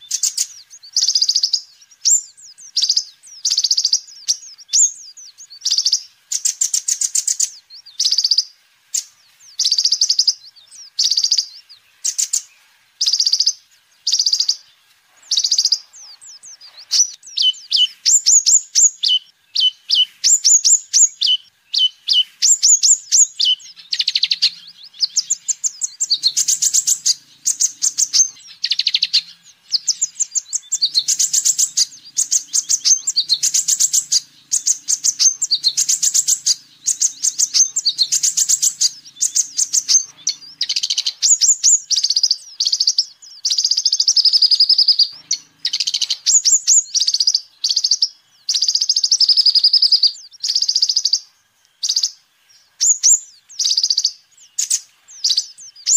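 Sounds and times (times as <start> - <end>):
bird chattering song: 0.0 - 55.9.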